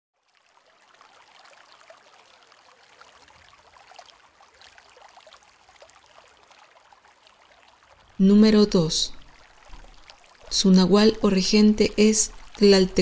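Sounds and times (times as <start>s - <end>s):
water trickling: 0.2s - 13.0s.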